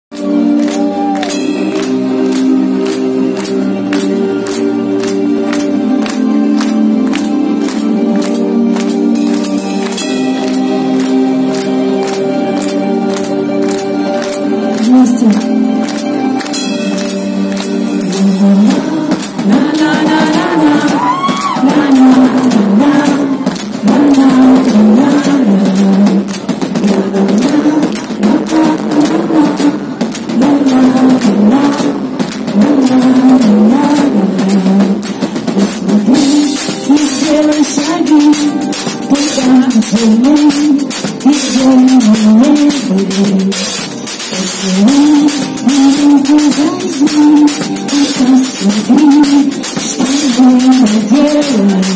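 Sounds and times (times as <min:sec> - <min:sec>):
drum kit beat: 0:00.1 - 0:51.9
keyboard: 0:00.1 - 0:51.9
live pop-rock band playing: 0:00.1 - 0:51.9.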